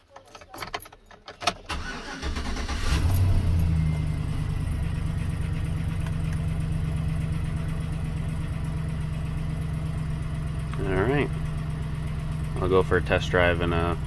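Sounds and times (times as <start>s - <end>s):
truck engine revving then idling: 1.8s - 14.0s.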